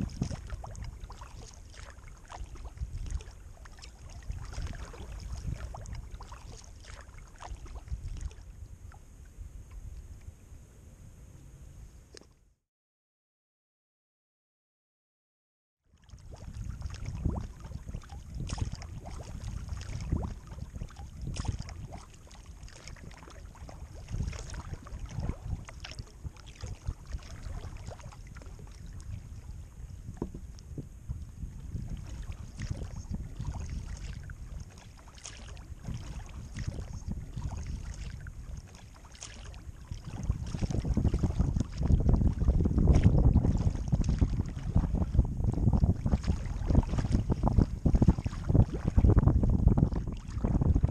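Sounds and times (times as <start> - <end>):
paddle splashing in water: 0.0 - 9.0, 16.0 - 50.9
water lapping at hull: 0.0 - 10.4, 15.9 - 50.9
wind rumble on microphone: 0.0 - 12.4, 15.9 - 50.9.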